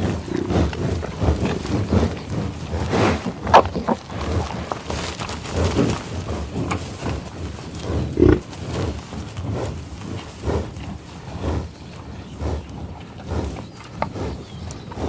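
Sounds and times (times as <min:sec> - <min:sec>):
bison grunting: 0:00.0 - 0:15.0.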